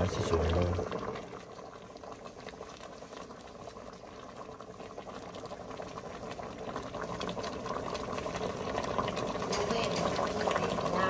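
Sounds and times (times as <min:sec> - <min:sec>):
curry bubbling at a boil: 0:00.0 - 0:11.0.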